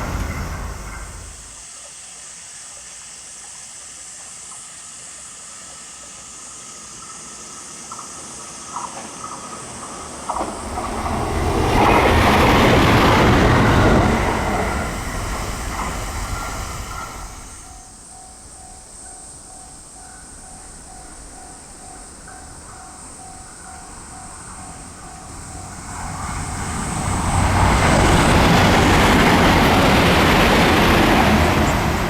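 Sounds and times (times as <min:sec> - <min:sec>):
electric train passing: 0:00.0 - 0:01.7, 0:04.1 - 0:32.0.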